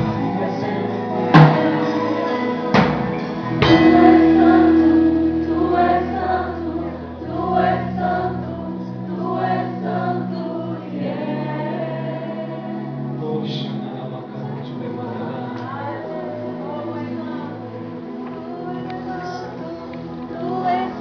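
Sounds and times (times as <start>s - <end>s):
choir singing with instruments: 0.0s - 21.0s.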